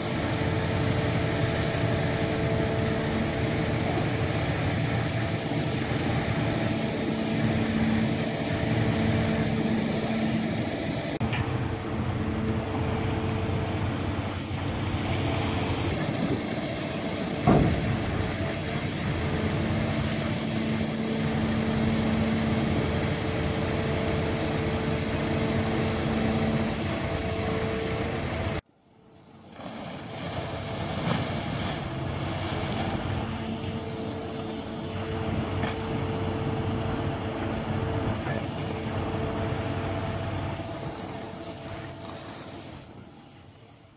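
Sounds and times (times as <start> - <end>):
boat engine humming: 0.0 - 43.9.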